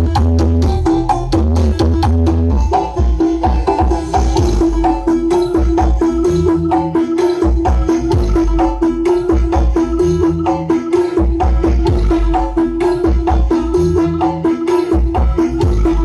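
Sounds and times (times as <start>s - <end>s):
loud music with deep bass: 0.0s - 16.0s.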